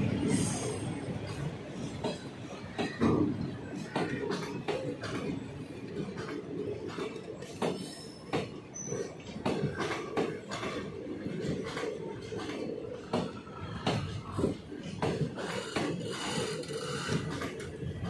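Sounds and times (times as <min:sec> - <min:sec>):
wheels rumbling on rails: 0:00.0 - 0:18.0.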